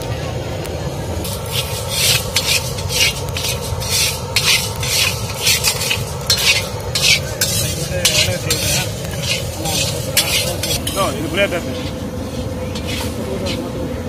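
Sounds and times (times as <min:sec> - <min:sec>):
steady low rumble: 0:00.0 - 0:14.0
metal ladle scraping dry lentils: 0:01.2 - 0:13.7.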